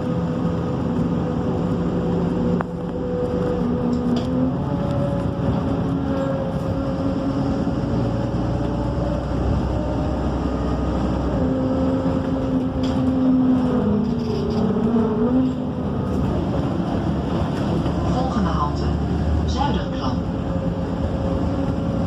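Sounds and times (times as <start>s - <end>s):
bus diesel engine running: 0.0s - 22.0s
drivetrain whine: 0.0s - 22.0s.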